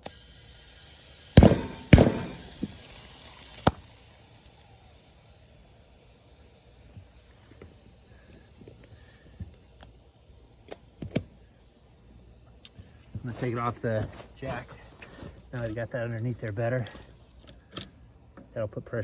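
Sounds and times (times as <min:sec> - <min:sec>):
ratchet strap clicking: 0:00.0 - 0:18.0
compressed air hissing: 0:00.0 - 0:18.7.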